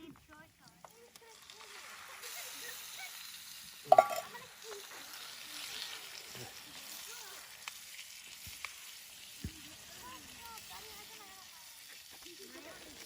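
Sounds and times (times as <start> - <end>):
faint voices: 0.0 - 7.7, 9.0 - 13.0
food sizzling in a pan: 0.0 - 13.0.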